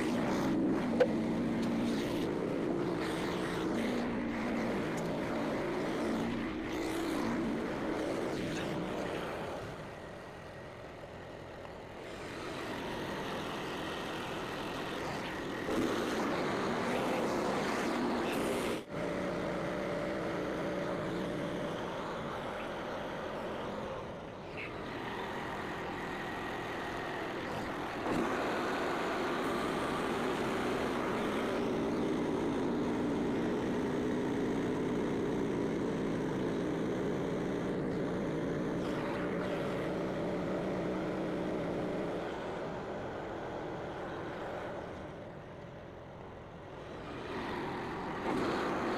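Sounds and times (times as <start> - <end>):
gas engine running: 0.0 - 48.9.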